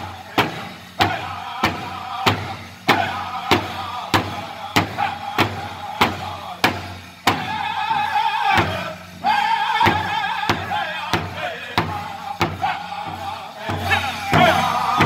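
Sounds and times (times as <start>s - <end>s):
large hide drum beating: 0.0s - 15.0s
men singing in high voices: 0.0s - 15.0s.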